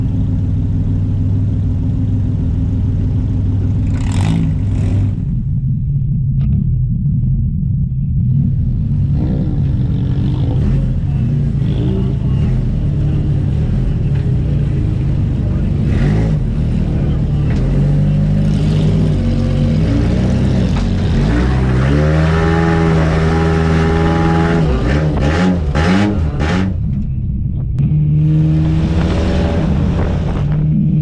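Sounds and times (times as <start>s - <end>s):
race car engine rumbling: 0.0s - 31.0s.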